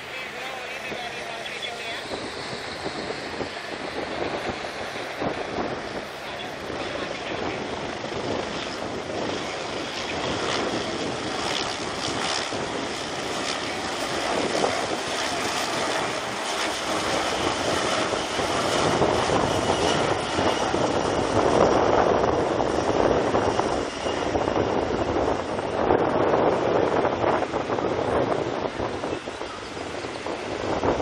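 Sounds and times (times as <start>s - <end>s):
helicopter turbine and rotor: 0.0s - 31.0s.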